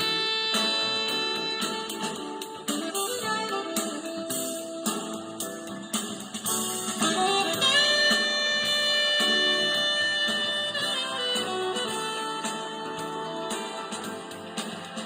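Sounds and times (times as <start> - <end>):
instrumental music through speaker: 0.0 - 15.0.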